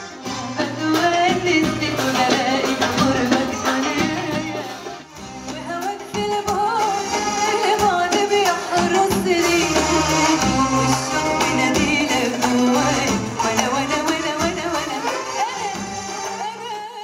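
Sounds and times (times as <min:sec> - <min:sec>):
live band playing: 0:00.0 - 0:17.0
woman singing into microphone: 0:00.2 - 0:17.0.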